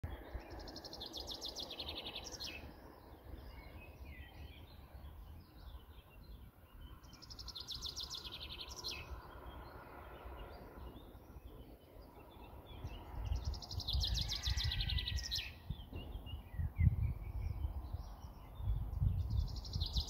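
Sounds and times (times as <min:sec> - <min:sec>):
songbird singing: 0:00.0 - 0:20.0
soft bird chirps: 0:00.1 - 0:20.0.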